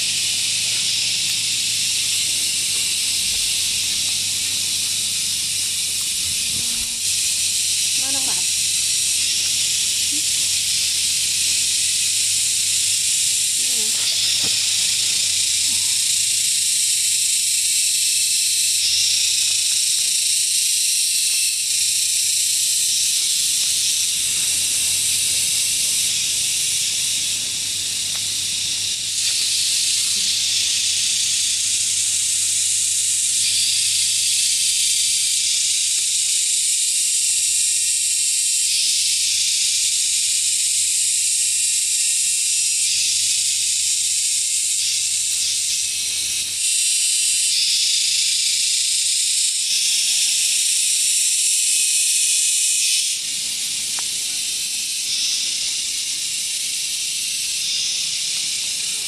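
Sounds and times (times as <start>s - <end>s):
loud high-pitched hiss: 0.0s - 59.0s.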